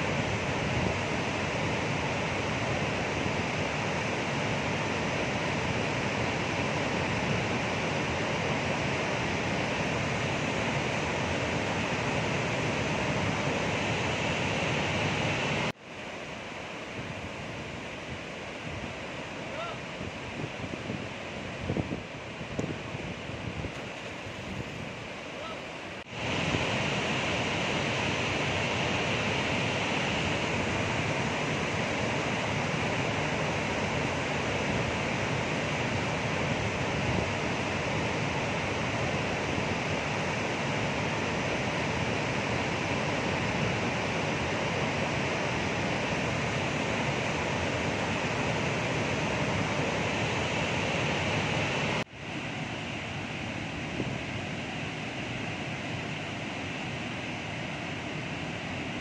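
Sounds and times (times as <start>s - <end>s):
water roaring down spillway: 0.0s - 59.0s.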